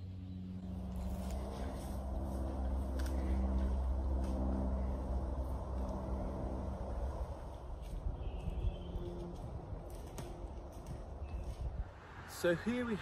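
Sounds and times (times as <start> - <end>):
engine drone: 0.0 - 12.9.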